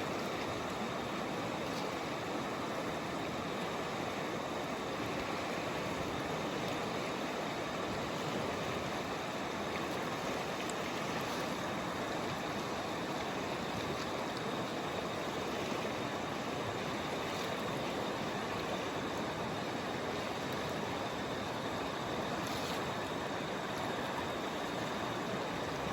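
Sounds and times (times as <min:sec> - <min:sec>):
river water flowing over rocks: 0:00.0 - 0:25.9.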